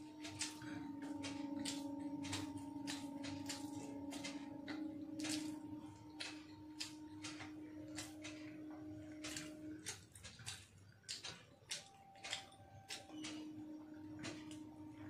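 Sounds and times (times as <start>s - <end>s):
steady low hum: 0.0s - 15.0s
man chewing: 0.1s - 13.3s.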